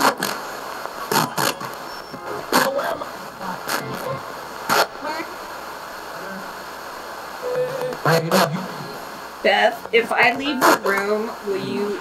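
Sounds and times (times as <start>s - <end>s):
chopped radio snatches: 0.0s - 11.4s
static hiss: 0.0s - 12.0s.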